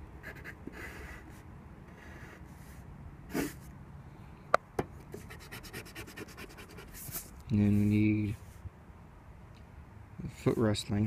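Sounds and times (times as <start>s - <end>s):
faint background noise: 0.0s - 11.0s.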